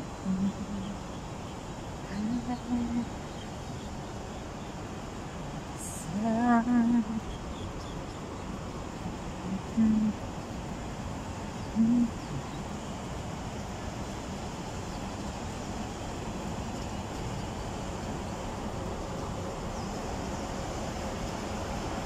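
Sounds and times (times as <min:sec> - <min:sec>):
city background noise: 0:00.0 - 0:22.0.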